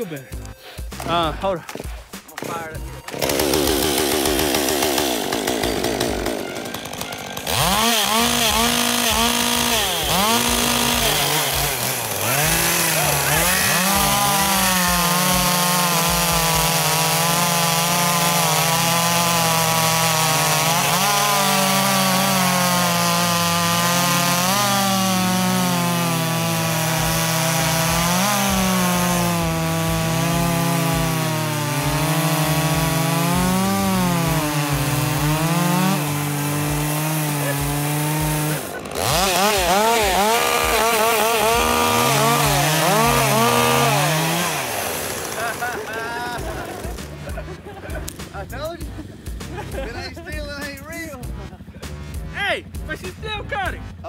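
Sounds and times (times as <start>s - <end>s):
chainsaws cutting logs: 0.0s - 54.0s.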